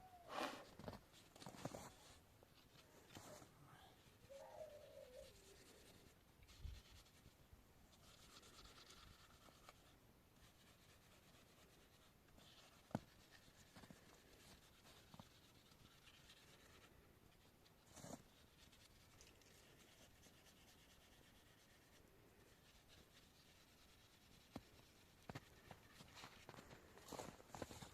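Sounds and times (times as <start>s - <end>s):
faint scratching and rustling: 0.2s - 27.9s.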